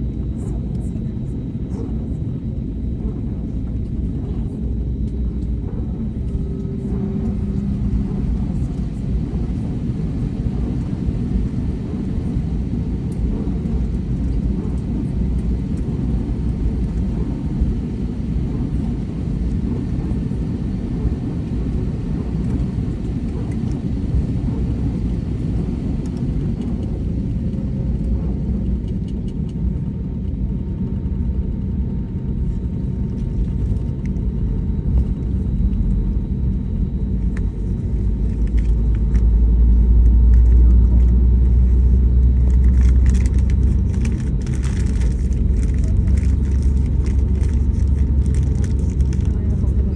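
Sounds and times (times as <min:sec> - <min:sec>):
airliner low rumble: 0:00.0 - 0:49.9.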